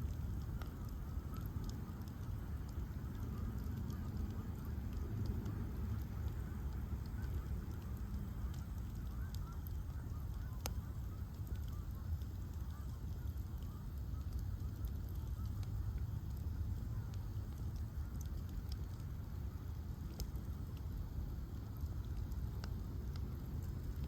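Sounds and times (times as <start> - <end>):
fire crackling and popping: 0.0 - 24.0
fire roaring: 0.0 - 24.0.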